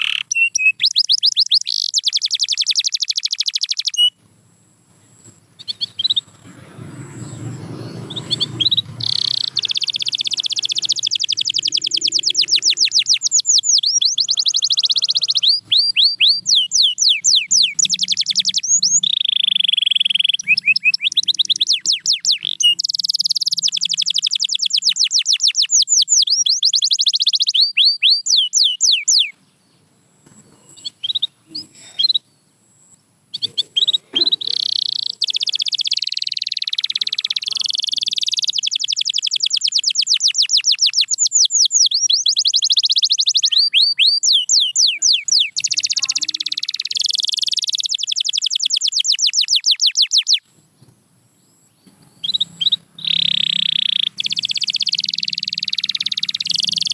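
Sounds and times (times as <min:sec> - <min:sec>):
canary singing trills: 0:00.0 - 0:04.2, 0:04.9 - 0:29.8, 0:30.4 - 0:56.9.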